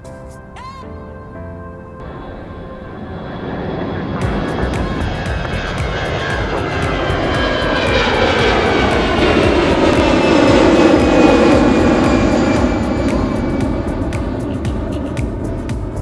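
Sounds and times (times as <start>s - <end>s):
jet airliner engines passing: 2.0s - 16.0s.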